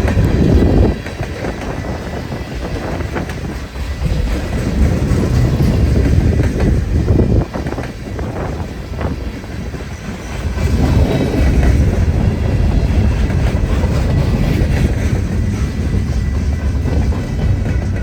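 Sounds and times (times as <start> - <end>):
train wheels rumbling and clacking: 0.0 - 18.0.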